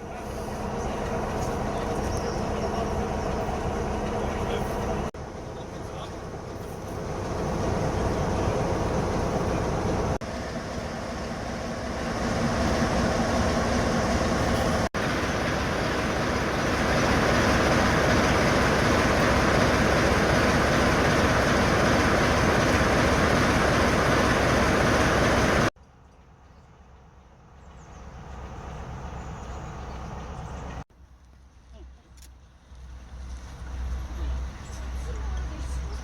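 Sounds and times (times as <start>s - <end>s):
diesel locomotive engine running: 0.0s - 36.0s.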